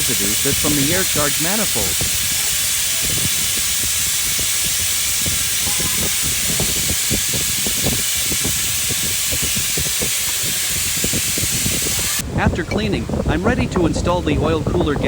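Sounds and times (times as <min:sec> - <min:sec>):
fluid extractor hissing and slurping: 0:00.0 - 0:12.2.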